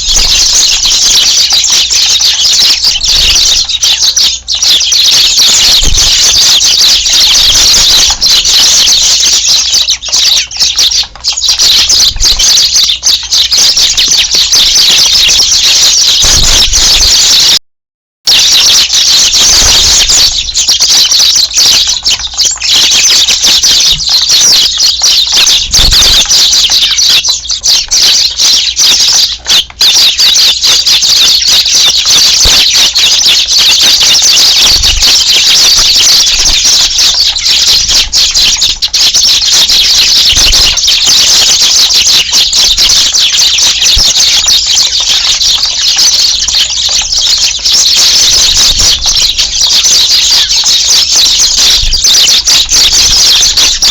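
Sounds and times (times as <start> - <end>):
flock of sparrows chirping: 0.0 - 17.6, 18.3 - 53.9.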